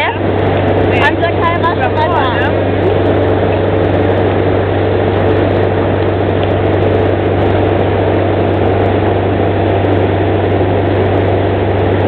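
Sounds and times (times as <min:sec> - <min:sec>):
motorboat engine hum: 0:00.0 - 0:12.0
rushing wind: 0:00.0 - 0:12.0
water noise: 0:00.0 - 0:12.0.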